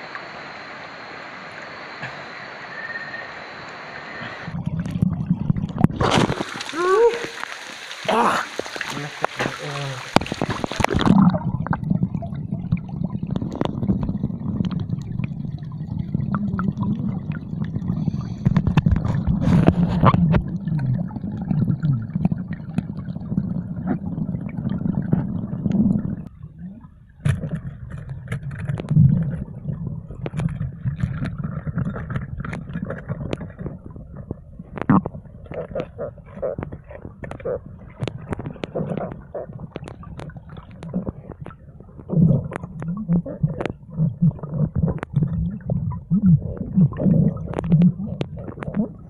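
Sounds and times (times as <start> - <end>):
underwater low rumble: 0.0 - 49.0
bubbling: 4.2 - 49.0.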